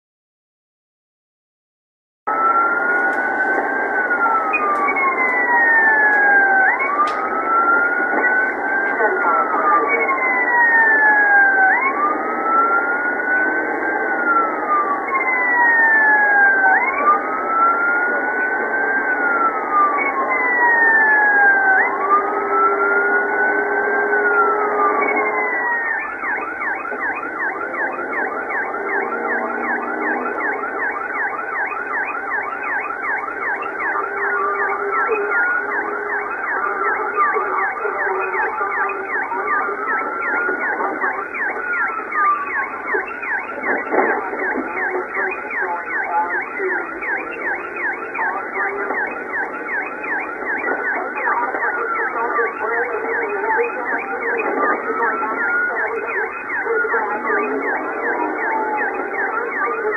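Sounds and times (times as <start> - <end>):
police siren wailing: 2.3 - 59.9.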